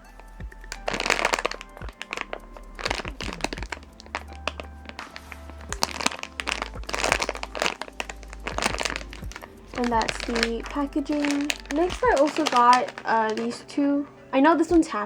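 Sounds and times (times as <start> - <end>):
background music: 0.0 - 15.0
plastic packaging crinkling: 0.0 - 15.0.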